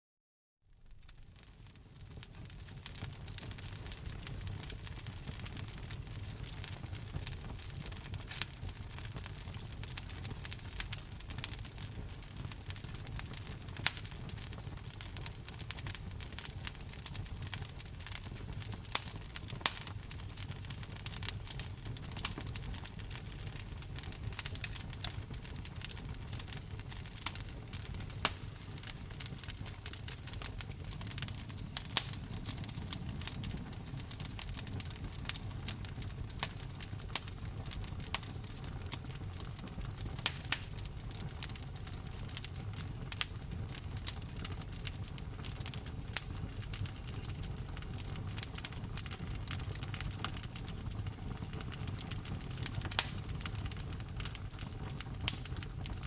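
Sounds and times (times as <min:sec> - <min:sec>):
wood fire crackling: 0:00.8 - 0:56.0.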